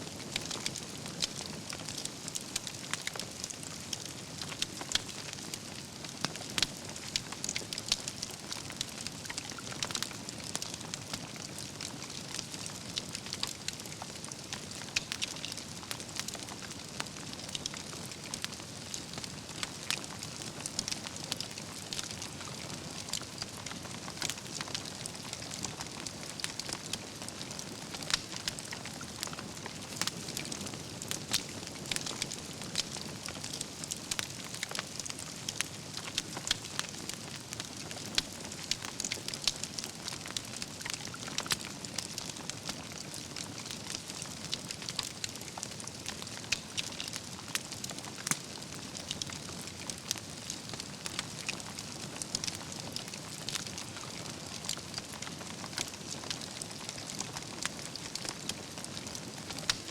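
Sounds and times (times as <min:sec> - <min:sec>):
burning logs crackling and popping: 0:00.0 - 0:59.9
campfire hissing: 0:00.2 - 0:59.8.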